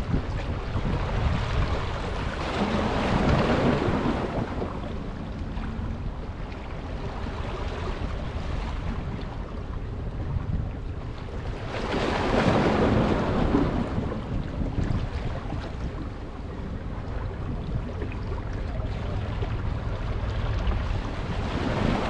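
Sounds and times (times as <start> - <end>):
sea: 0.0 - 22.0
wind buffeting microphone: 0.0 - 22.0.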